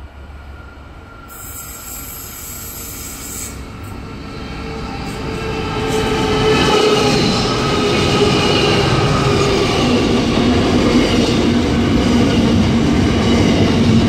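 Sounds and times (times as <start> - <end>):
diesel locomotive engine rumble: 0.0 - 14.0
train wheels on rails: 0.0 - 14.0.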